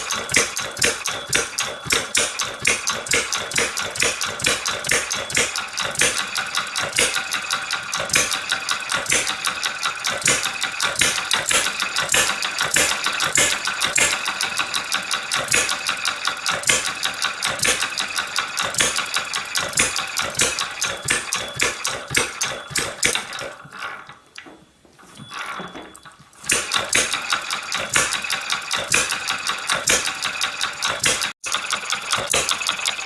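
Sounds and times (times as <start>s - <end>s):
model engine clattering: 0.0s - 24.2s, 26.5s - 33.0s.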